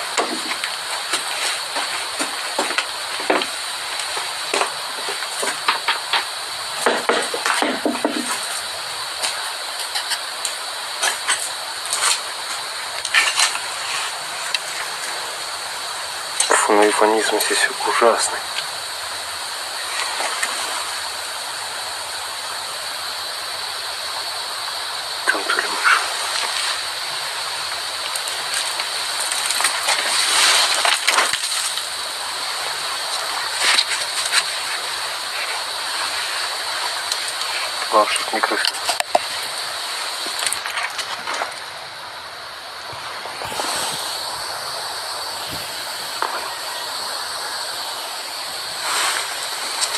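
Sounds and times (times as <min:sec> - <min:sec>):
crunching and clicking noises: 0:00.0 - 0:15.6, 0:16.2 - 0:18.8, 0:19.8 - 0:21.0, 0:25.0 - 0:42.1, 0:42.8 - 0:47.9, 0:48.7 - 0:49.9
static hiss: 0:00.0 - 0:49.9.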